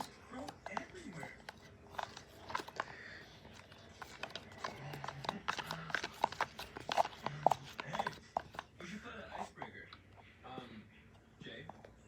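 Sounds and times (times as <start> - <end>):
spoon stirring sticky slime: 0.0 - 12.0.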